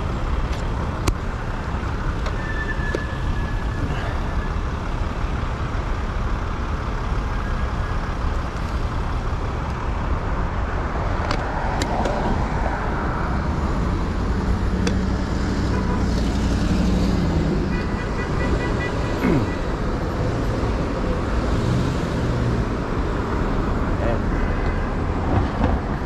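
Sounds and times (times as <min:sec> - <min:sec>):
low rumble of cars: 0:00.0 - 0:26.0.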